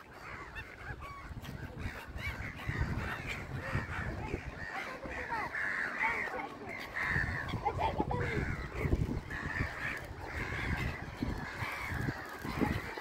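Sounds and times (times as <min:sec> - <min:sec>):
birds cawing and squawking: 0:00.0 - 0:13.0.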